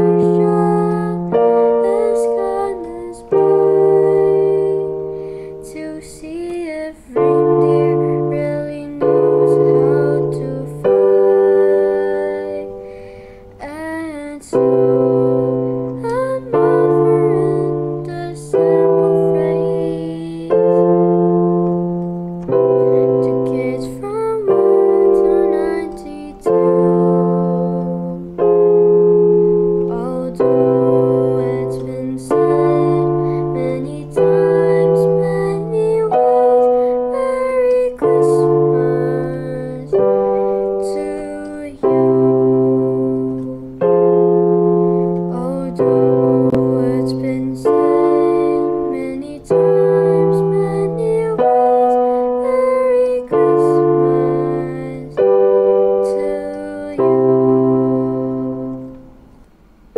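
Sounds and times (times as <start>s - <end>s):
electronic keyboard chords: 0.0s - 59.9s.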